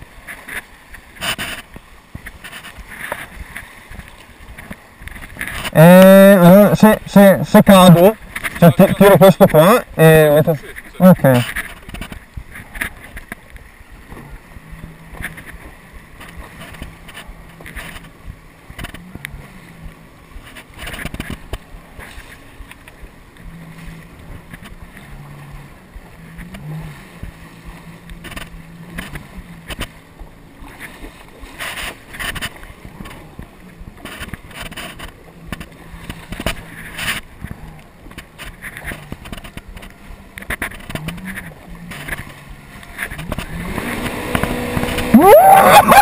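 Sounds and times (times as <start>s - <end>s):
water splashing against hull: 0.0s - 46.0s
watercraft engine humming: 0.0s - 46.0s.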